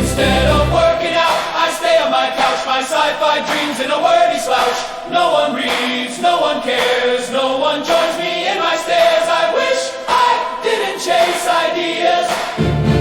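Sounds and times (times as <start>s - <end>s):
choir-like sung vocals: 0.0s - 13.0s.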